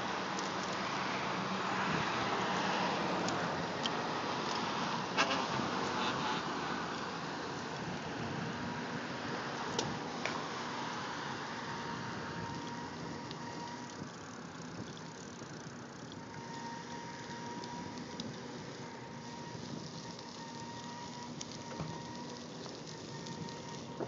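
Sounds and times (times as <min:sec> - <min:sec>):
steady traffic hiss: 0:00.0 - 0:24.0.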